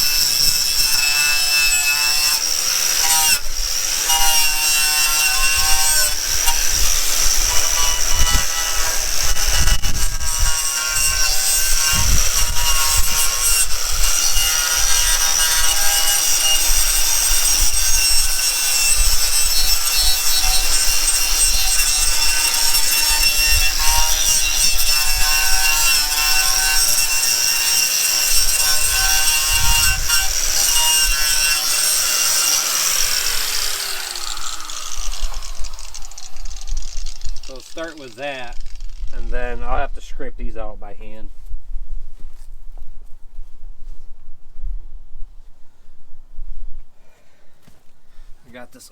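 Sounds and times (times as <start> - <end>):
power tool grinding metal: 0.0 - 41.2.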